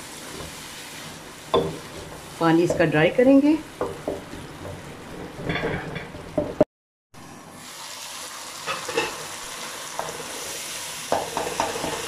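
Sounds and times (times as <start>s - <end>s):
masala sizzling in oil: 0.0s - 6.6s, 7.2s - 12.0s.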